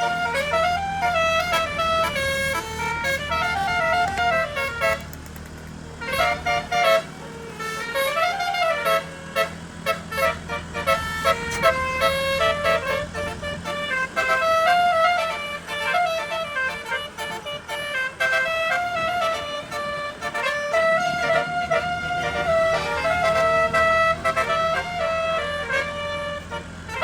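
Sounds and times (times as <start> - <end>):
bus horn playing a melody: 0.0 - 27.0
low engine hum: 0.0 - 27.0.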